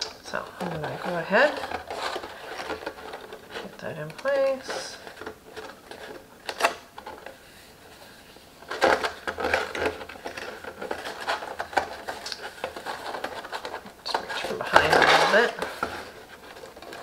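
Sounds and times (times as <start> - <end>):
cardstock rustling and crackling: 0.0 - 17.0.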